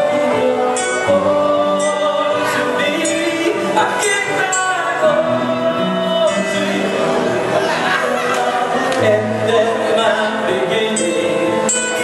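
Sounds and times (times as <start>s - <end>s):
live band music: 0.0s - 12.0s
person singing into a microphone: 0.0s - 12.0s.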